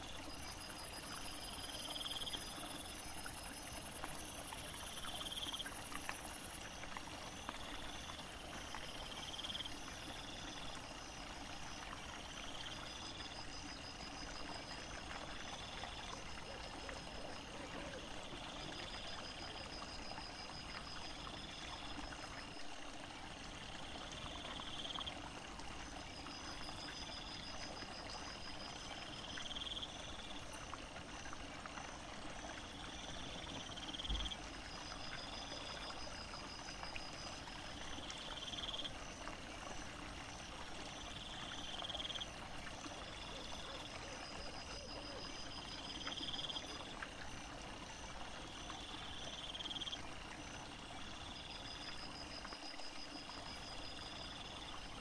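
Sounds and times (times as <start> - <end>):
insects trilling: 0.0 - 22.7, 23.3 - 55.0
stream trickling: 0.0 - 55.0.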